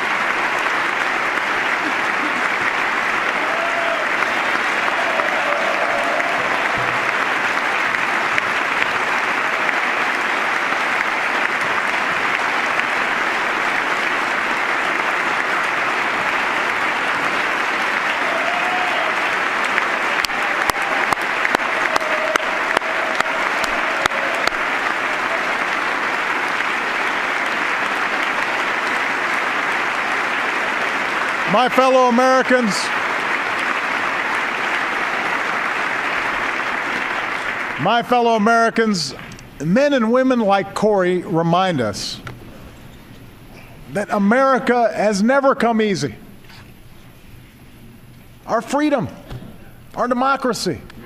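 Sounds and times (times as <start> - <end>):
large audience applause: 0.0 - 41.2.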